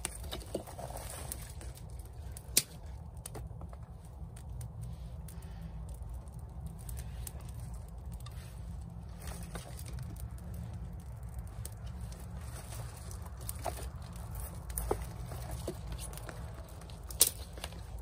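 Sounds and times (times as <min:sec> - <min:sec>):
dry twigs snapping: 0:00.0 - 0:18.0
low steady rumble: 0:00.0 - 0:18.0.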